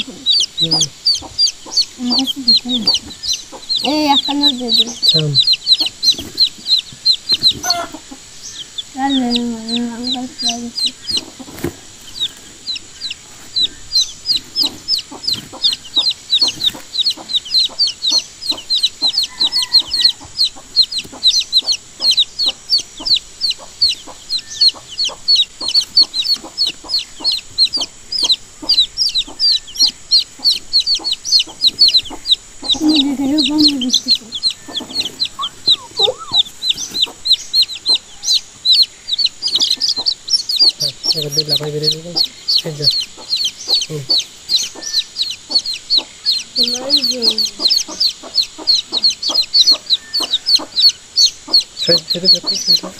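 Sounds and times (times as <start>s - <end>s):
baby chicks peeping: 0.0s - 52.9s.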